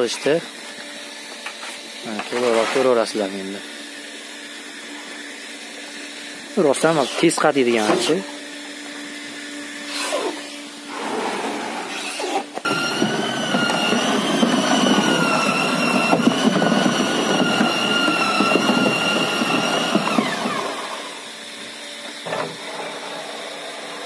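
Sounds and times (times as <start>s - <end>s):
drill motor whine: 0.0s - 24.0s.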